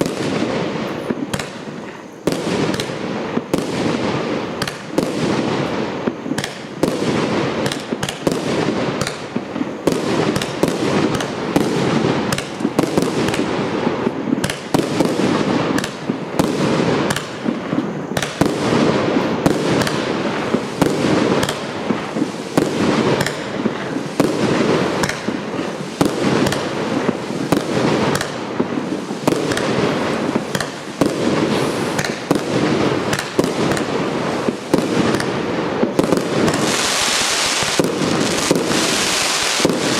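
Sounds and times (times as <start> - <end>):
firework barrage: 0.0 - 39.9
firework crackling: 0.0 - 39.9.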